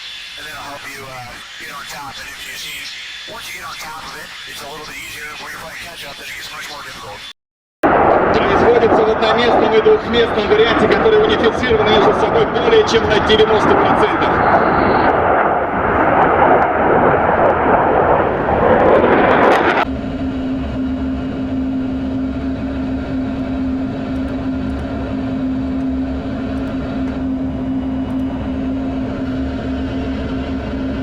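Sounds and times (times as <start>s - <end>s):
steady drone with low hum: 0.0s - 7.2s, 7.8s - 31.0s
jet aircraft roar: 0.0s - 31.0s.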